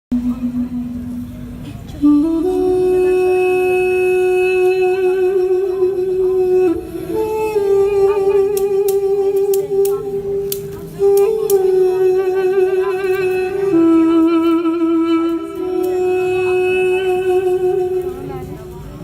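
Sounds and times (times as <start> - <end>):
duduk playing slow melody: 0.1 - 19.0.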